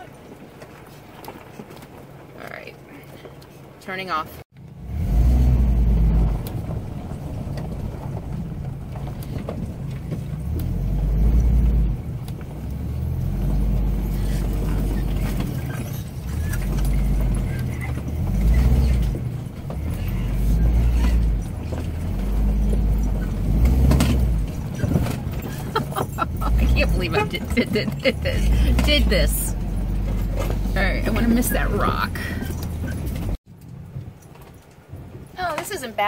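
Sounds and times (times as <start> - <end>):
motorhome engine rumbling: 0.0 - 36.0
brush scraping vehicle sides: 3.2 - 33.4.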